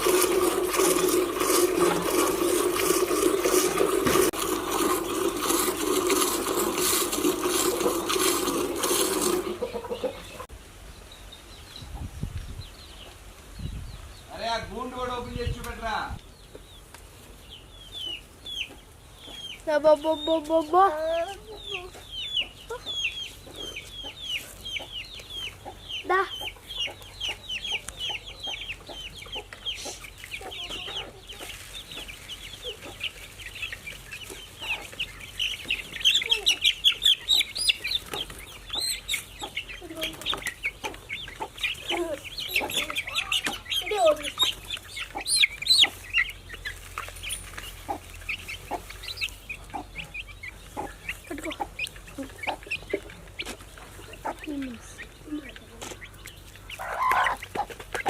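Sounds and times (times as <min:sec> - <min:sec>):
chickens clucking: 0:00.0 - 0:10.6, 0:11.2 - 0:58.0.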